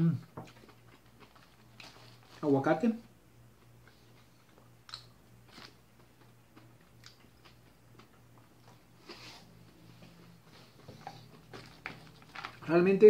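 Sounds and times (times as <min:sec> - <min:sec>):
low steady hum: 0:00.0 - 0:13.0
chewing salad: 0:00.2 - 0:02.5, 0:03.5 - 0:13.0.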